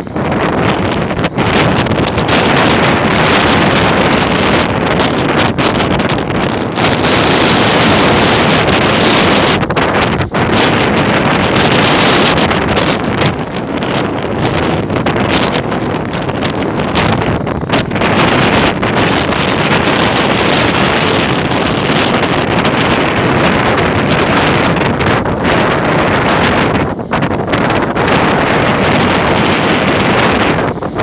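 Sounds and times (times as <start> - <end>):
ocean surf: 0.0 - 31.0
wind buffeting microphone: 0.0 - 31.0.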